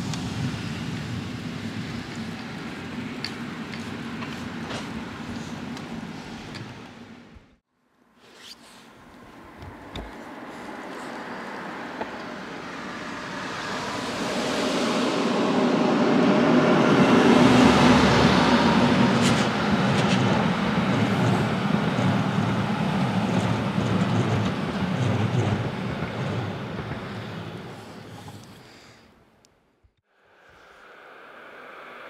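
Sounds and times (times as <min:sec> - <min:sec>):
train wheels rumbling on rails: 0:00.0 - 0:07.5, 0:09.7 - 0:28.7.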